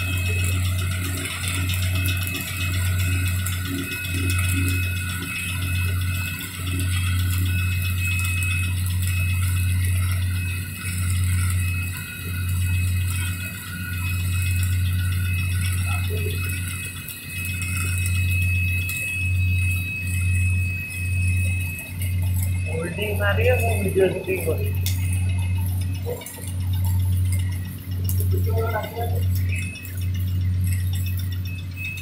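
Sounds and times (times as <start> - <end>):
welding arc crackling and buzzing: 0.0 - 32.0.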